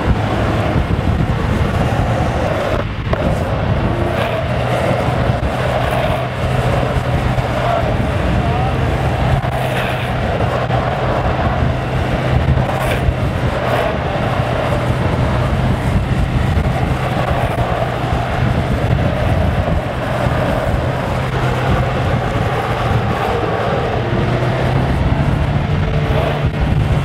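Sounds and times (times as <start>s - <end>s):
road noise: 0.0s - 27.0s
wind rushing: 0.0s - 27.0s.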